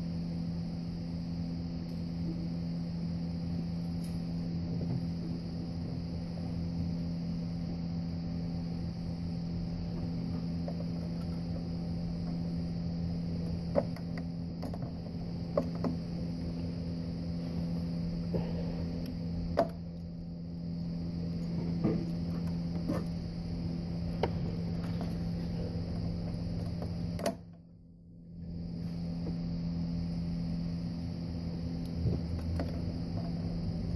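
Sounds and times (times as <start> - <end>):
steady mechanical hum: 0.0 - 33.9.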